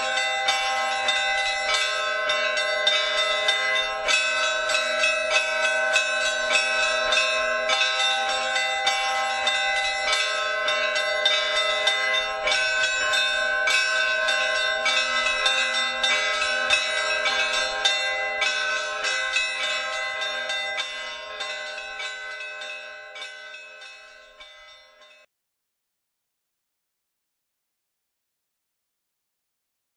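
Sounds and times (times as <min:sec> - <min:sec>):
bells ringing: 0:00.0 - 0:25.3.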